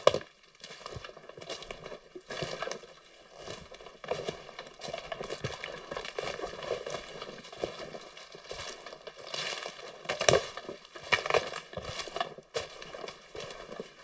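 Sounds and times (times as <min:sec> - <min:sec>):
footsteps rustling on forest floor: 0:00.0 - 0:14.0.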